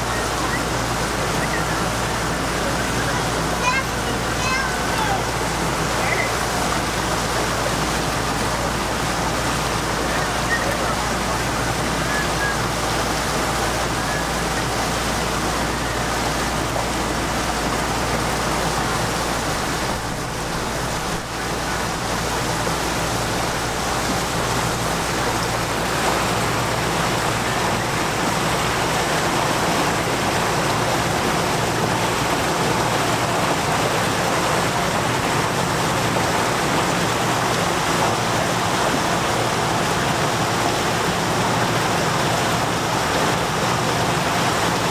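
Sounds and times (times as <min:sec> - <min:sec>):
boat engine droning: 0:00.0 - 0:44.9
water rushing along boat hull: 0:00.0 - 0:44.9.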